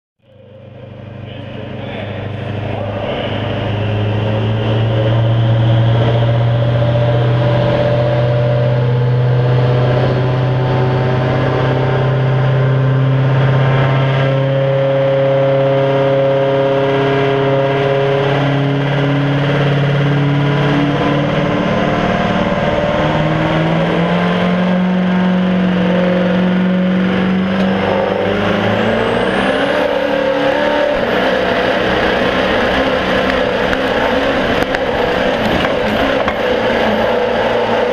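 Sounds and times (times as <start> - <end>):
diesel truck engine running hard: 0.2 - 37.9.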